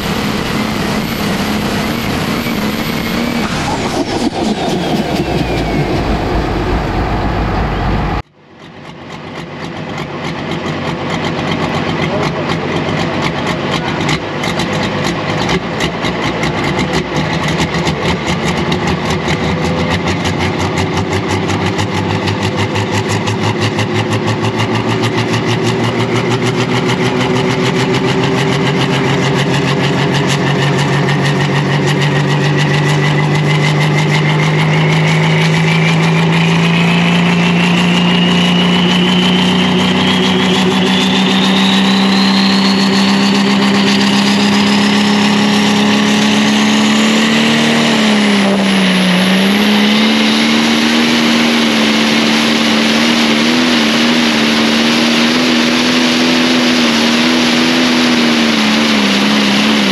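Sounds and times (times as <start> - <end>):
diesel engine revving: 0.0 - 59.9
high turbo whine: 0.0 - 59.9.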